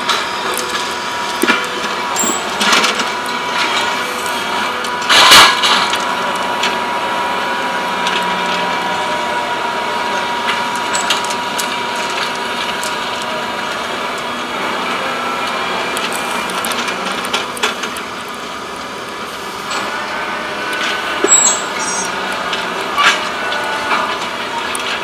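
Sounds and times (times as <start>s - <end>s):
excavator engine and hydraulic whine: 0.0s - 25.0s.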